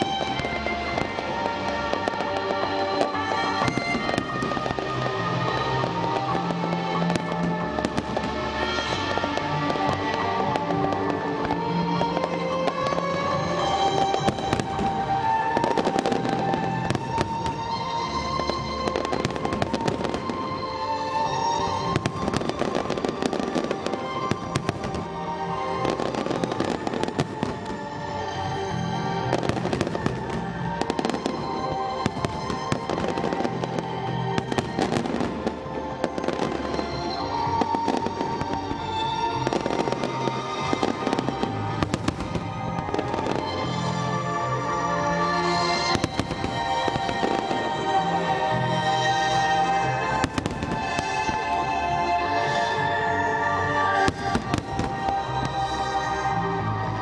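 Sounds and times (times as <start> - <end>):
music soundtrack: 0.0 - 57.0.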